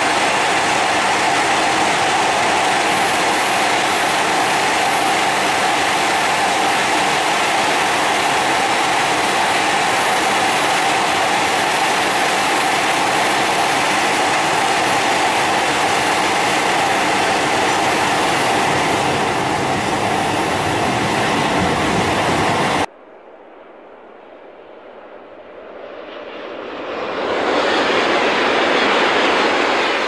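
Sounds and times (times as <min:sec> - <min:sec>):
high-speed train rushing past: 0:00.0 - 0:30.0.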